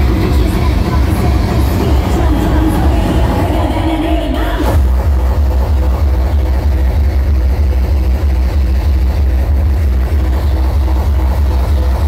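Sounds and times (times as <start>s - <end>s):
fast bass kick drum: 0.0s - 12.0s
steady synth notes: 0.0s - 12.0s.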